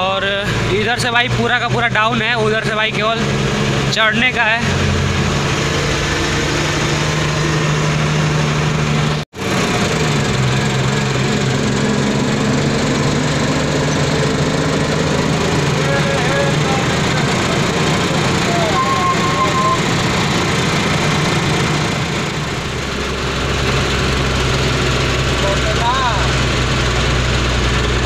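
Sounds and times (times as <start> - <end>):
diesel engine running: 0.0 - 28.0
loud rattling in cab: 0.0 - 28.0.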